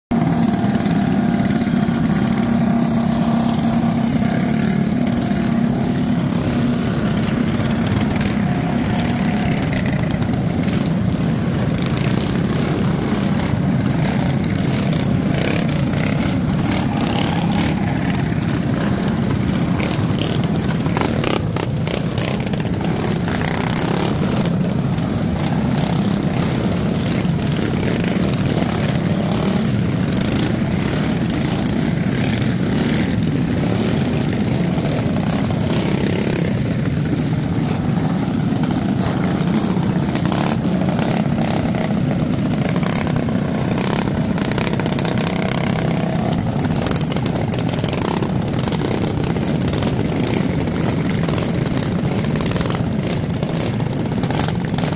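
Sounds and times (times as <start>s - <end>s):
mini-bike engines droning: 0.1s - 54.9s.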